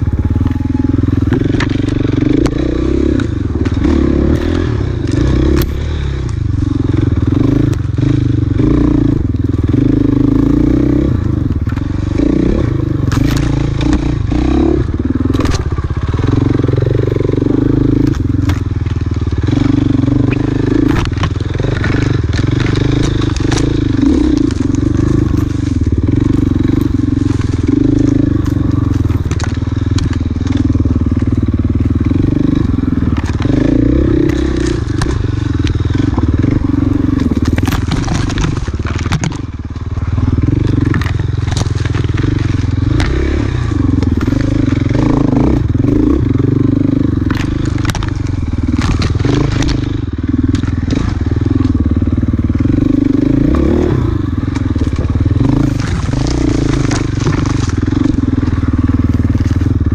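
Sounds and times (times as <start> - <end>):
dirt bike engine revving: 0.0 - 59.9
knocks and clatter from terrain: 9.1 - 14.5, 15.3 - 51.8, 52.4 - 59.9.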